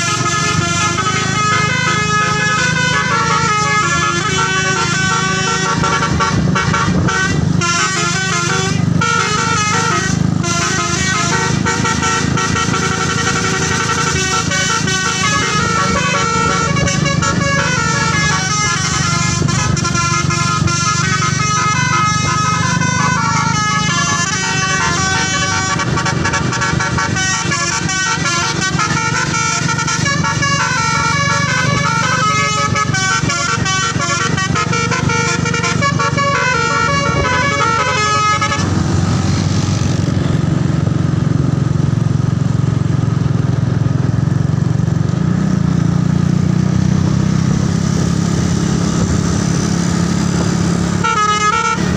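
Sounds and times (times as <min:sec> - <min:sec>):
musical air horn melody: 0:00.0 - 0:40.1, 0:48.7 - 0:51.9
bus engine hum: 0:00.0 - 0:51.9.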